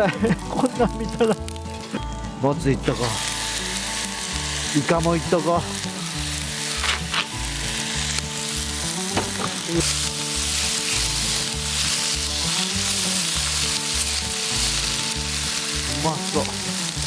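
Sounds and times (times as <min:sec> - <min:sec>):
food sizzling on hot griddle: 0:00.0 - 0:17.0.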